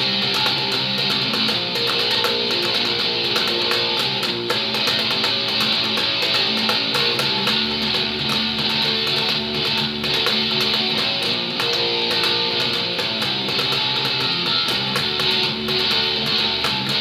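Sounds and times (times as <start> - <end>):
electric bass plucked: 0.0 - 17.0
loud rock music: 0.0 - 17.0.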